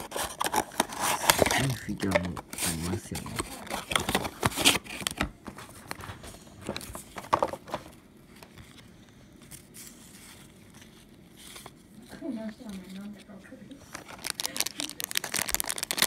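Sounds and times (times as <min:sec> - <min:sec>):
paper packaging rustling: 0:00.0 - 0:16.0.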